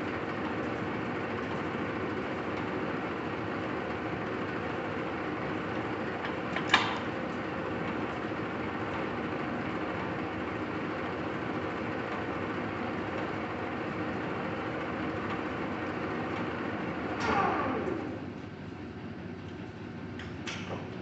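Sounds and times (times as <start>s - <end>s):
lathe humming and whirring: 0.0s - 20.2s.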